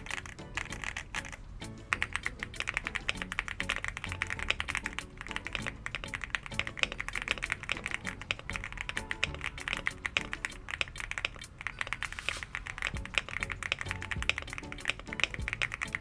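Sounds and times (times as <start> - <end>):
mechanical keyboard typing: 0.0 - 12.2, 12.8 - 16.0.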